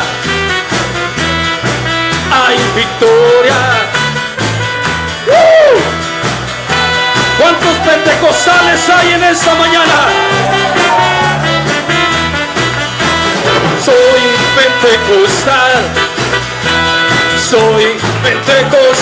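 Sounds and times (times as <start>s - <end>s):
band playing worship music: 0.0s - 19.0s
bass line: 0.0s - 19.0s
drum beat: 0.0s - 19.0s
sliding lead melody: 0.0s - 19.0s.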